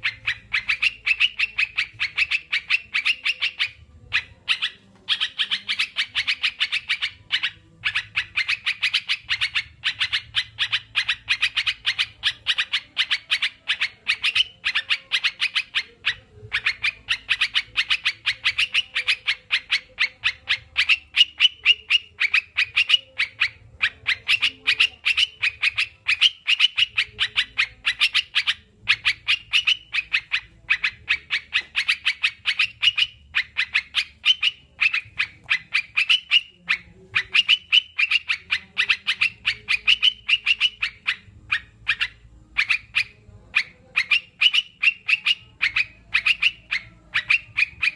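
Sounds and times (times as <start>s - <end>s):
birds chirping rapidly: 0.0s - 47.9s.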